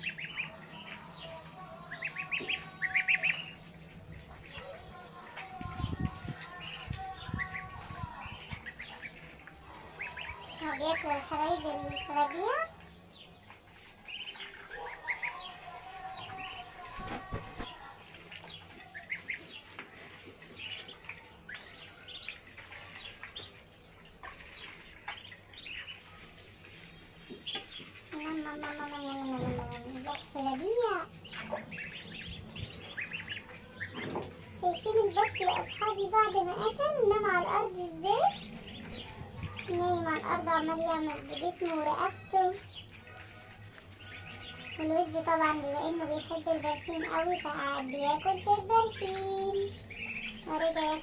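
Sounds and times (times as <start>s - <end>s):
goslings and ducklings peeping: 0.0s - 51.0s.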